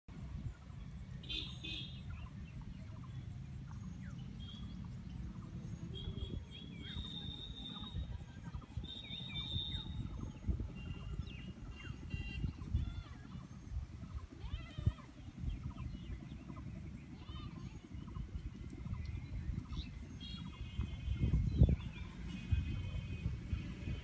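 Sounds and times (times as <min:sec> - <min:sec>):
birds chirping: 0:00.1 - 0:24.0.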